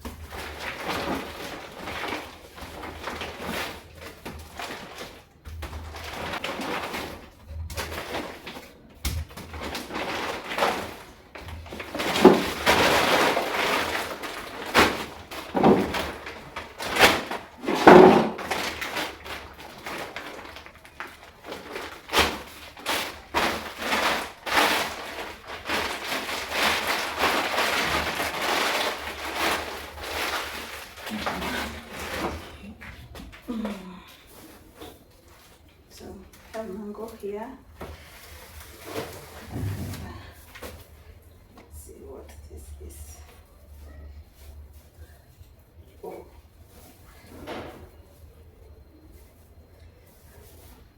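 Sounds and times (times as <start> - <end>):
plastic packaging crinkling: 0.0 - 41.5.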